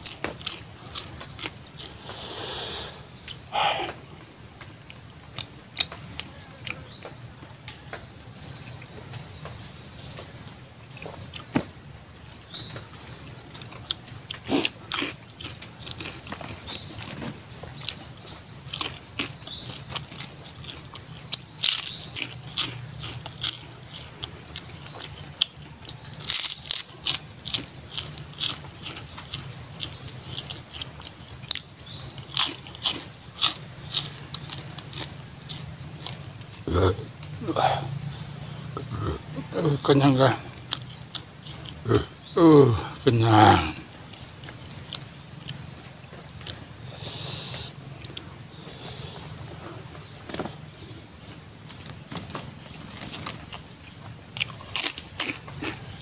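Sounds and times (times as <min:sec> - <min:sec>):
crunching and chewing: 0:00.0 - 0:08.1, 0:12.5 - 0:56.0
high insect drone: 0:00.0 - 0:56.0.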